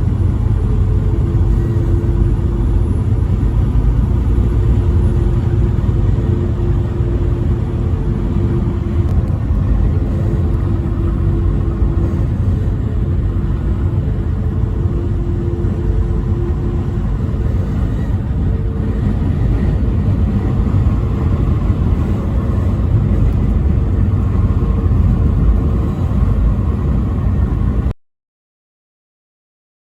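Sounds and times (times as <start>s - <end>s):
vehicle road and engine rumble: 0.0s - 28.0s.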